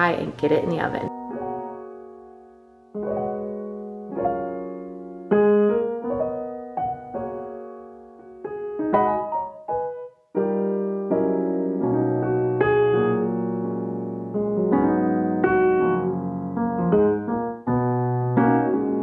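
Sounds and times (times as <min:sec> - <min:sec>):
piano chords and notes: 0:00.0 - 0:19.0.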